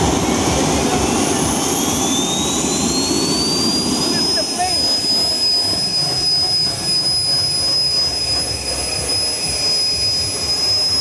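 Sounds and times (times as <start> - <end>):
jet turbine engine whine: 0.0 - 11.0.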